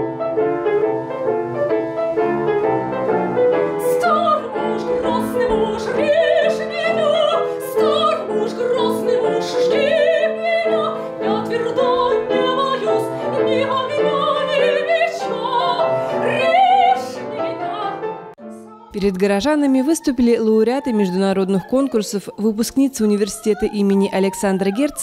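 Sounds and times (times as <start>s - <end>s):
upright piano: 0.0s - 25.0s
woman singing operatically: 3.7s - 25.0s.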